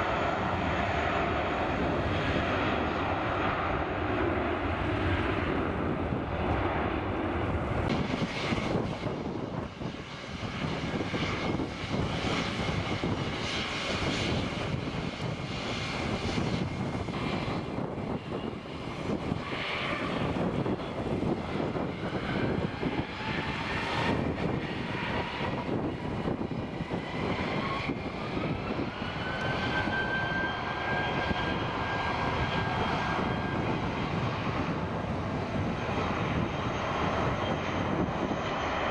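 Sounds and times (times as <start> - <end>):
jet engine whine spooling up: 0.0 - 38.9
jet engines running: 0.0 - 38.9.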